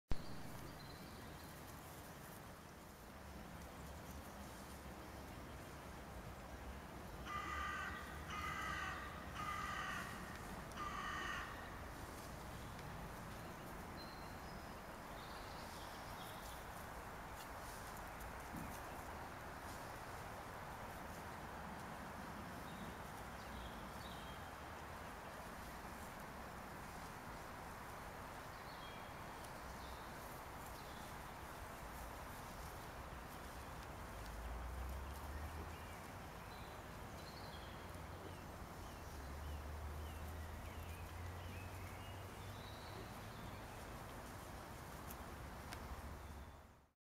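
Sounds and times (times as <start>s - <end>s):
steps rustling in dry leaves: 0.2s - 6.3s, 7.3s - 46.7s.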